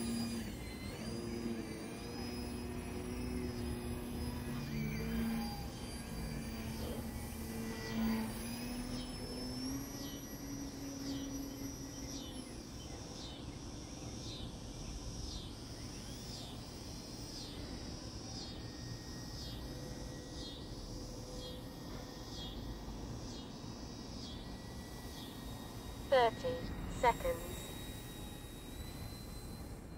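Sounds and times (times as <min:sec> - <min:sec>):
electric motor whine: 0:00.0 - 0:29.9
insects chirping: 0:00.1 - 0:29.9.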